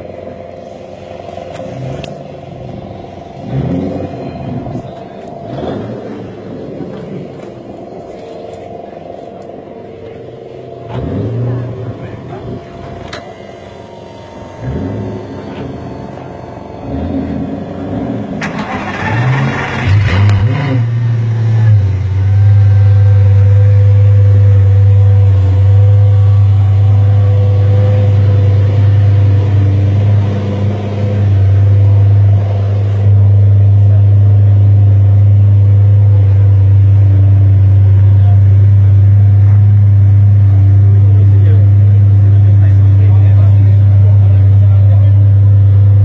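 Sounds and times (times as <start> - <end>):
sports car engine starting and idling: 0.0 - 46.0.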